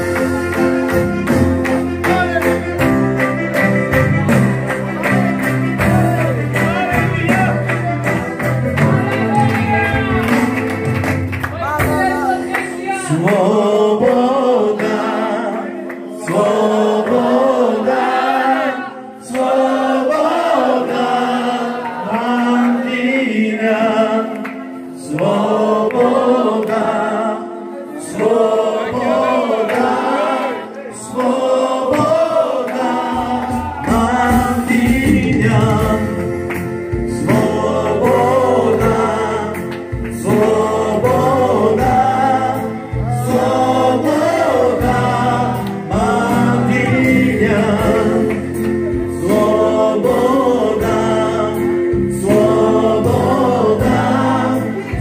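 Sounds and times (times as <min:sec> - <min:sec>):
voices singing worship song: 0:00.0 - 0:55.0.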